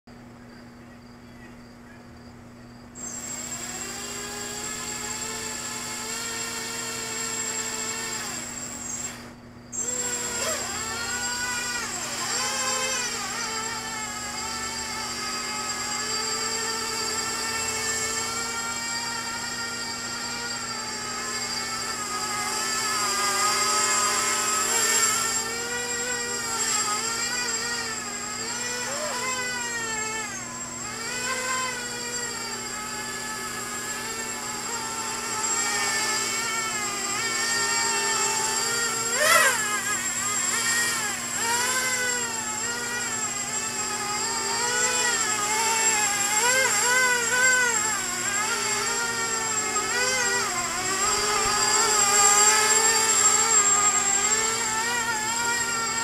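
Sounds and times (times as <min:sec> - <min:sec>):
drone motors whining: 0:00.3 - 0:56.0.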